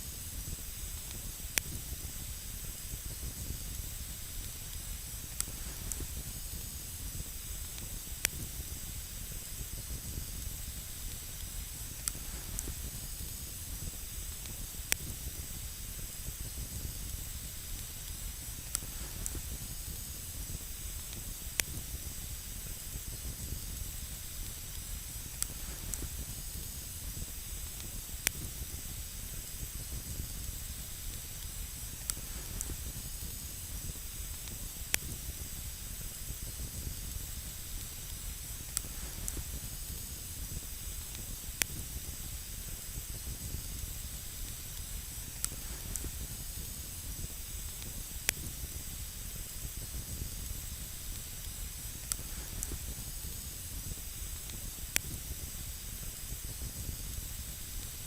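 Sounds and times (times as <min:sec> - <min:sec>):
campfire crackling pops: 0:00.0 - 0:58.0
campfire hissing: 0:00.0 - 0:58.0.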